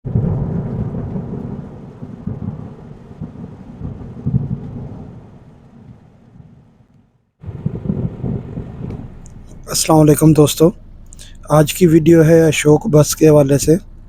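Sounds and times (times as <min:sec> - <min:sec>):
low rumble: 0:00.1 - 0:14.0.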